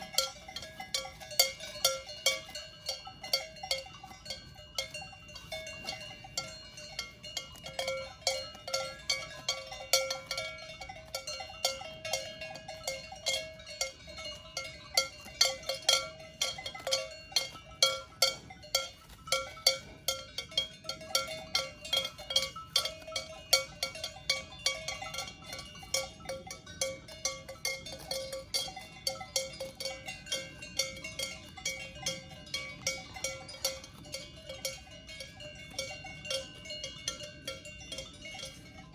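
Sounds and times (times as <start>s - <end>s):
cowbells clanking: 0.0s - 38.9s.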